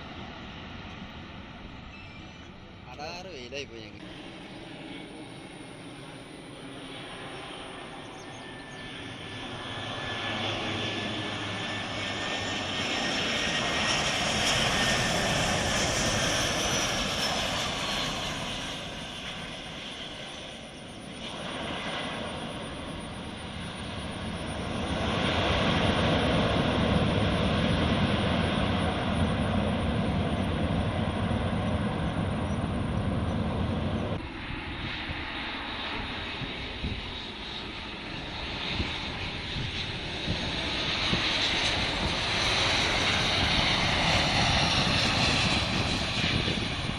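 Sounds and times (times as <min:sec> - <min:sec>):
airliner engine roar: 0:00.0 - 0:46.9
jet engine whine: 0:00.0 - 0:46.9.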